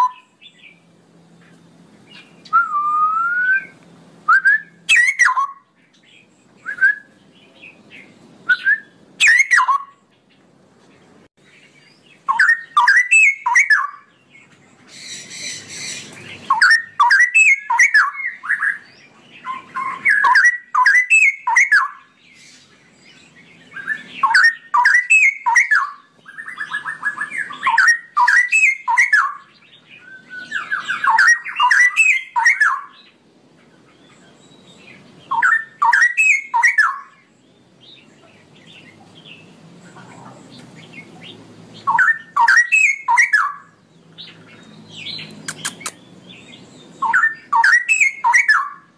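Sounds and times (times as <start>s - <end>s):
bird singing warbled song: 0.0s - 48.9s.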